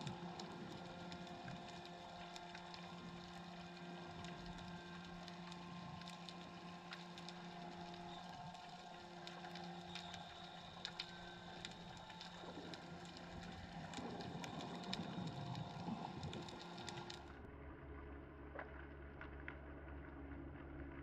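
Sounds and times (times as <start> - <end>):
underwater clicks and crackles: 0.0 - 17.4
low underwater hum: 0.0 - 21.0.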